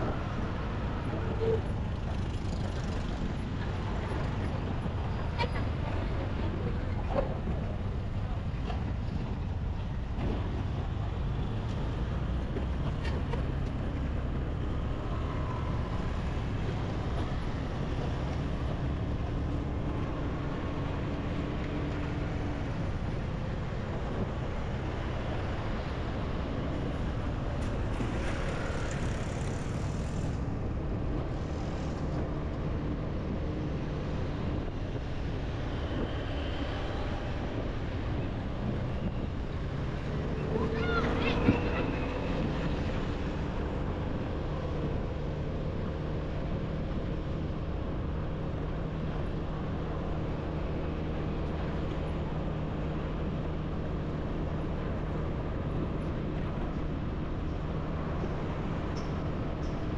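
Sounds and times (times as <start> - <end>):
city traffic noise: 0.0 - 59.9.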